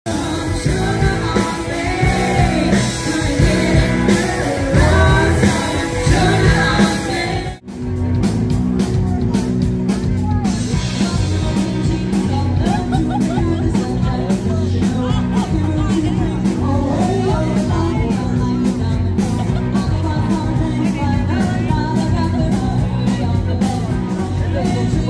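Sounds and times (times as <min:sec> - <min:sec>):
rock and roll band music: 0:00.0 - 0:25.0
person singing: 0:00.1 - 0:07.6, 0:10.3 - 0:25.0.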